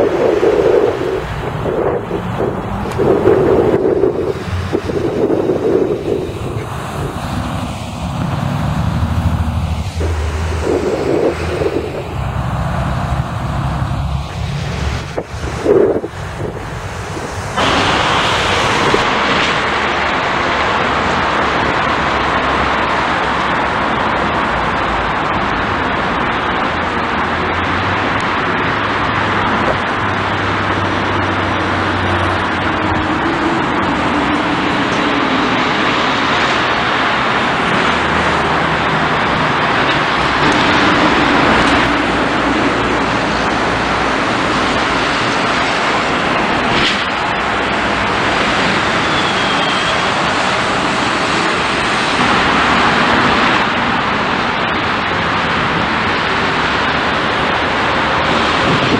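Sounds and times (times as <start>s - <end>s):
buses and trucks humming: 0.0s - 58.9s
road traffic: 0.0s - 58.9s.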